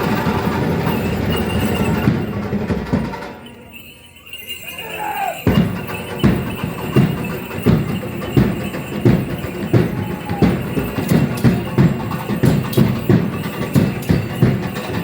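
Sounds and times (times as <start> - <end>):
drumming steady beat: 0.0 - 15.0.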